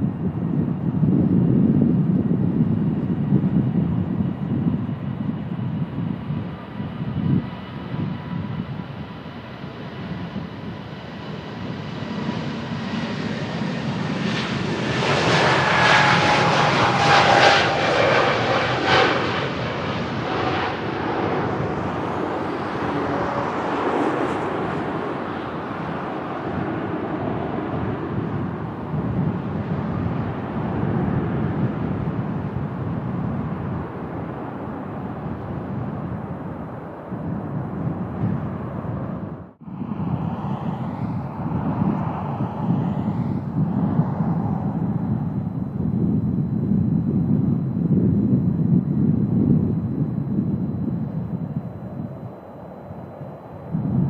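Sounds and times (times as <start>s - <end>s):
jet airliner passing by: 0.0s - 54.0s
wind rumbling on microphone: 0.0s - 54.0s.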